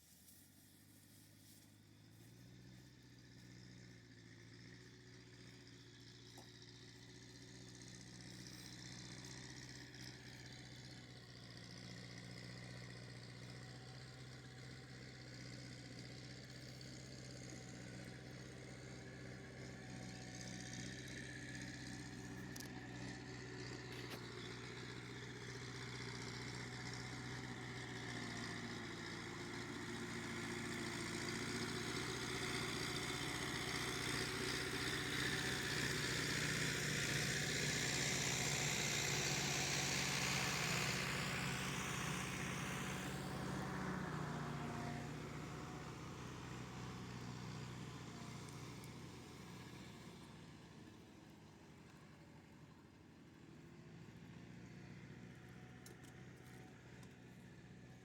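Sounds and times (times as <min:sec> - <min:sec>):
vehicle engine running: 0:00.7 - 0:58.0.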